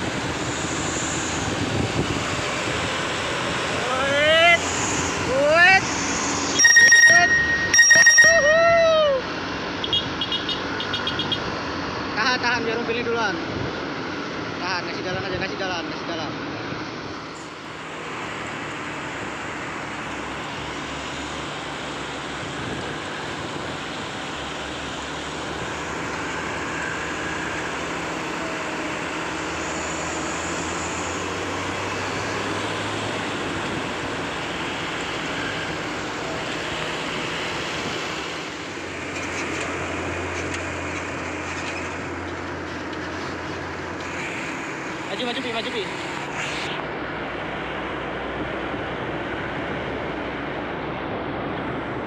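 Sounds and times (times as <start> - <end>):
road noise: 0.0 - 52.0
vehicle engines running: 0.0 - 52.0.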